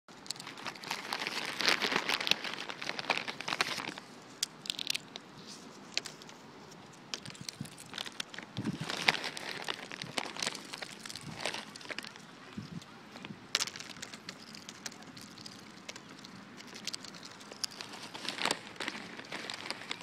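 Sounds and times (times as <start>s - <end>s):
plastic chip bag crinkling: 0.1s - 6.4s, 7.0s - 20.0s.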